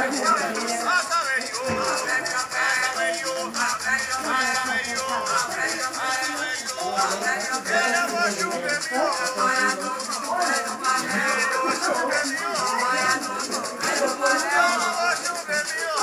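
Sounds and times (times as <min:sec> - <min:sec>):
hand shakers rattling: 0:00.0 - 0:16.0
overlapping voices: 0:00.0 - 0:16.0.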